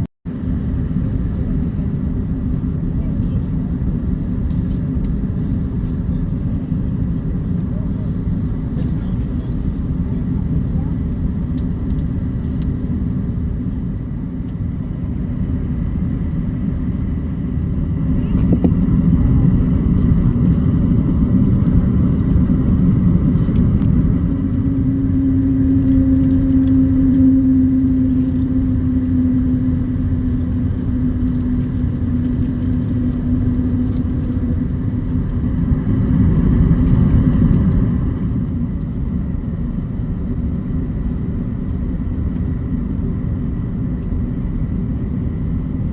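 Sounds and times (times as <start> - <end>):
jet engines: 0.0 - 45.9
rumble of airframe and wheels: 0.0 - 45.9
steady hum: 0.0 - 45.9.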